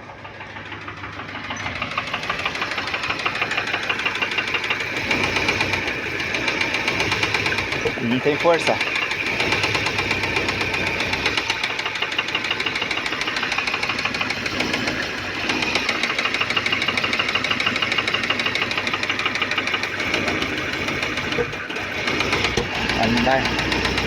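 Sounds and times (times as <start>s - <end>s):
car engine running with heavy knock: 0.0s - 24.0s.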